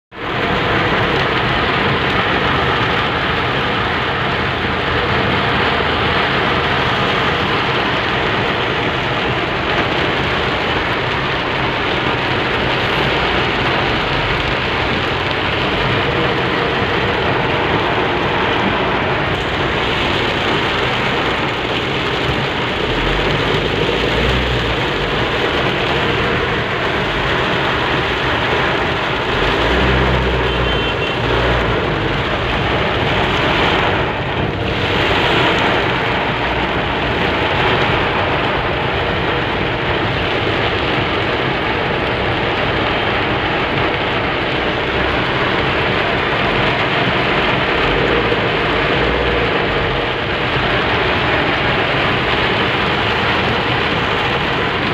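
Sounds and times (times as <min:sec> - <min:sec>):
car engine and road rumble: 0:00.0 - 0:54.9
heavy rain on car roof: 0:00.0 - 0:54.9.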